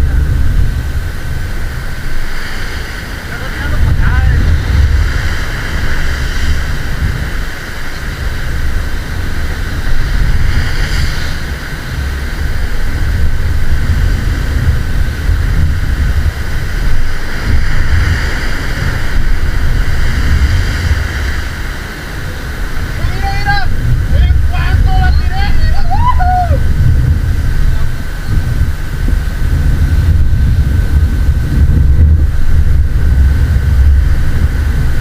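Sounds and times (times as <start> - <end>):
surf washing on beach: 0.0 - 35.0
wind buffeting microphone: 0.0 - 35.0.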